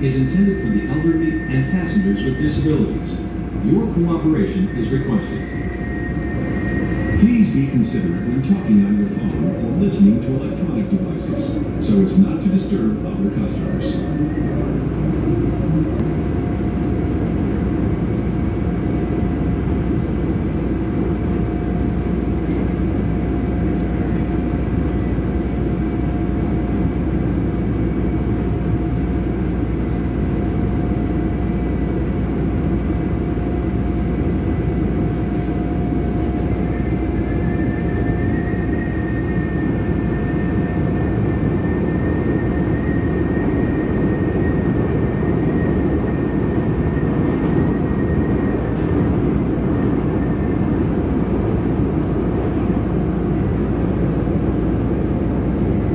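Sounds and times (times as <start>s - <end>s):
higher whine: 0.0s - 55.9s
thin steady whine: 0.0s - 55.9s
train rumble: 0.0s - 55.9s.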